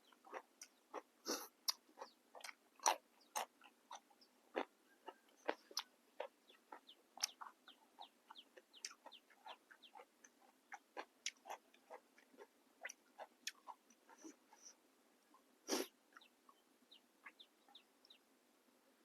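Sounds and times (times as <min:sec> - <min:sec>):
chewing crunchy raw vegetables: 0:00.0 - 0:16.4.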